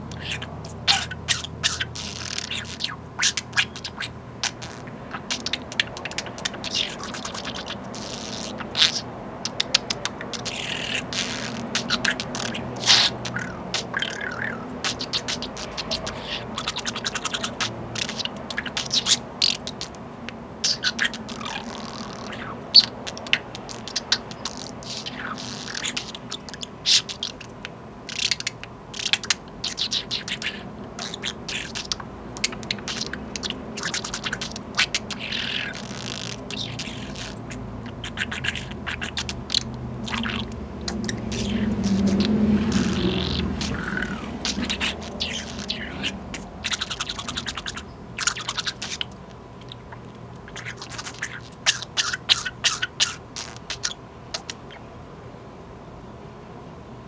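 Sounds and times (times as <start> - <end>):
budgerigar clicking and chattering: 0.0 - 54.9.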